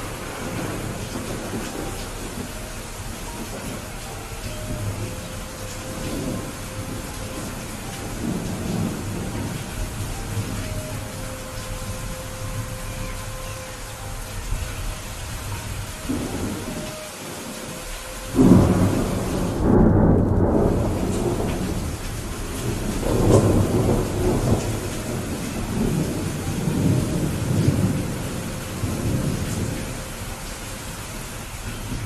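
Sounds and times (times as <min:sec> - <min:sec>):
steady rain: 0:00.0 - 0:32.0
thunder rumbling: 0:00.0 - 0:32.0.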